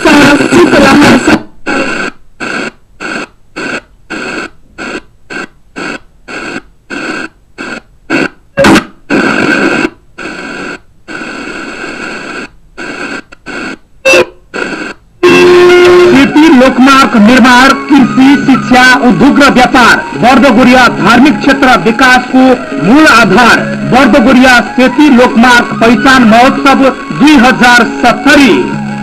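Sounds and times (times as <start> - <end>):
bursts of static hiss: 0.0 - 29.0
radio station audio: 0.0 - 29.0.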